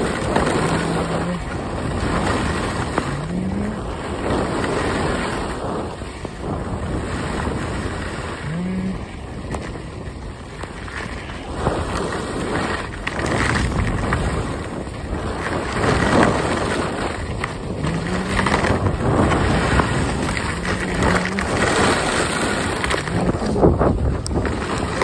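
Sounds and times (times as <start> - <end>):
skis carving over snow: 0.0 - 25.0
wind buffeting microphone: 0.0 - 25.0.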